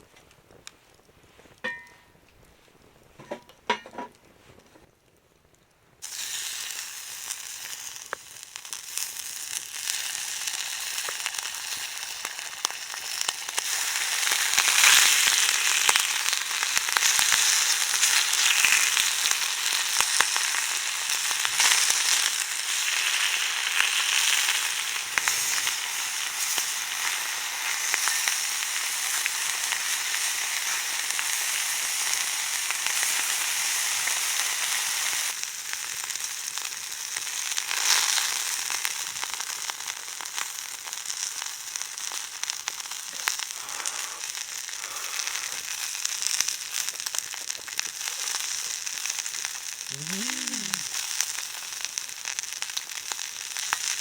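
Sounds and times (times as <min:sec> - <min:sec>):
meat sizzling in a pan: 0:06.0 - 0:54.0.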